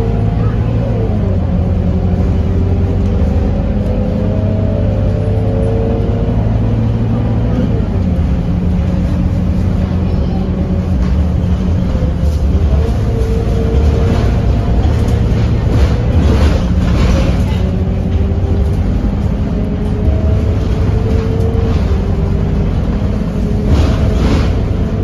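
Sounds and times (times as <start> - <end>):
bus diesel engine drone: 0.0 - 25.0
engine whine: 0.0 - 25.0.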